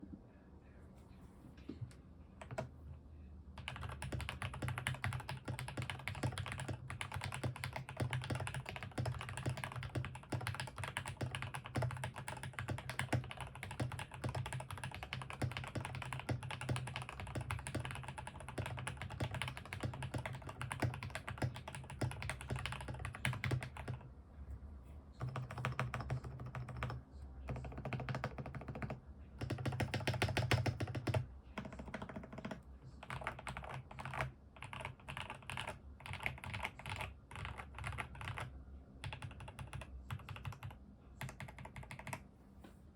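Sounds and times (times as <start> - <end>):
fast mechanical keyboard typing: 2.4 - 2.7, 3.6 - 24.1, 25.2 - 42.2.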